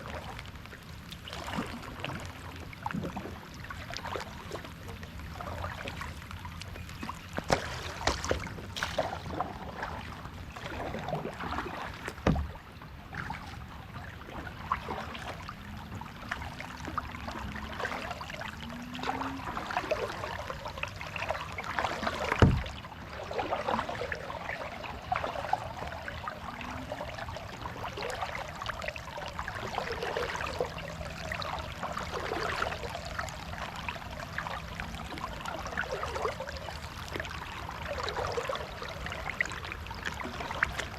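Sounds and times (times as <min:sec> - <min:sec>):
paddle splashing water: 0:00.0 - 0:40.9.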